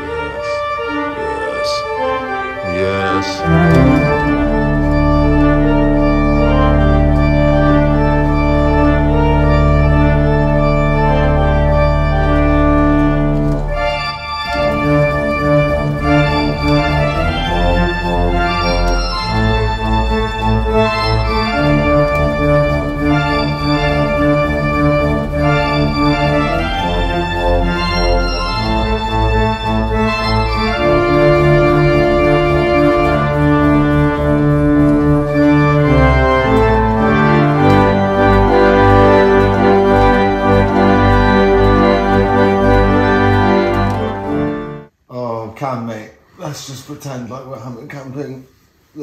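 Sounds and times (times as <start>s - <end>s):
organ chords: 0.0s - 45.0s.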